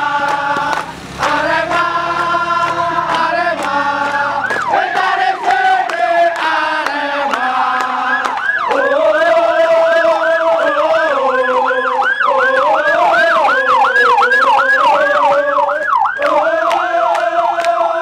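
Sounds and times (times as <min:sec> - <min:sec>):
police siren yelping: 0:00.0 - 0:18.0.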